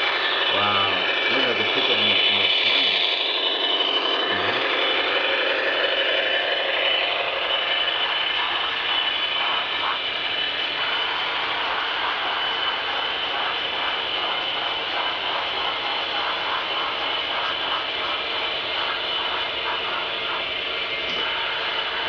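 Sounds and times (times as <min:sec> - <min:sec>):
model train running on track: 0:00.0 - 0:22.0
thin steady high tone: 0:00.0 - 0:22.0.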